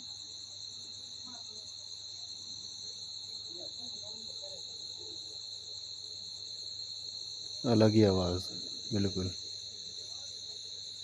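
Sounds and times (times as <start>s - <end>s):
crickets trilling: 0.0s - 11.0s
faint rhythmic insect chirp: 0.0s - 11.0s.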